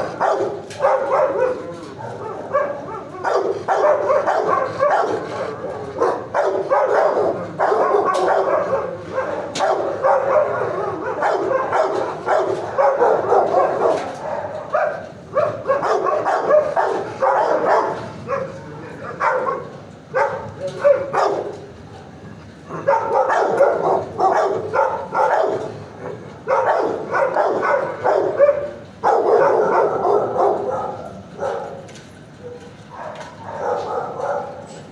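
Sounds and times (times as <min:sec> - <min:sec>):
dogs barking: 0:00.0 - 0:34.9.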